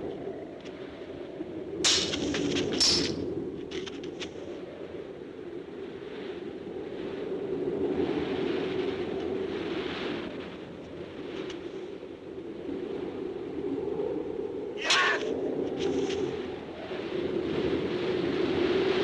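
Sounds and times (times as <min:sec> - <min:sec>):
strong wind across grass: 0:00.0 - 0:19.0.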